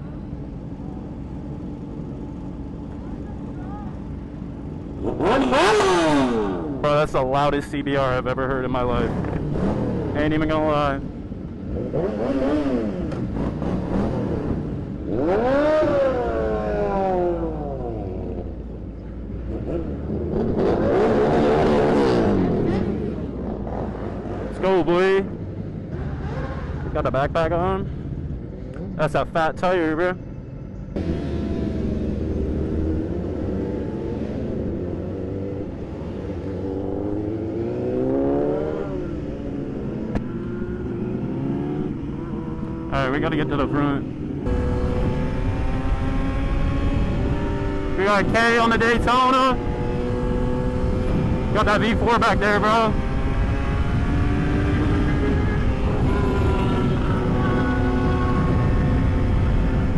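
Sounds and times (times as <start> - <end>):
motorcycle engine revving: 0.0 - 59.9
other motorcycles running: 0.0 - 59.9.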